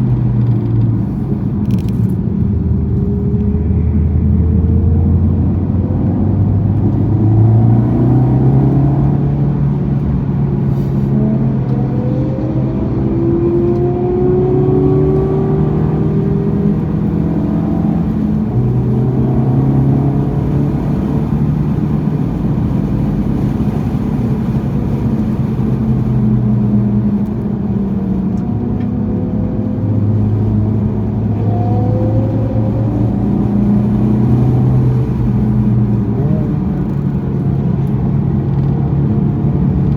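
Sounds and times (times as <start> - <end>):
car engine accelerating and shifting: 0.0 - 39.9.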